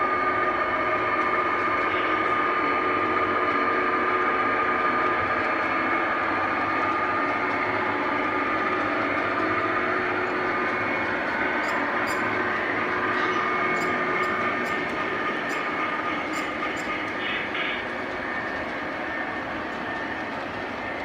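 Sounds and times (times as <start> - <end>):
model locomotives running on track: 0.0 - 21.0.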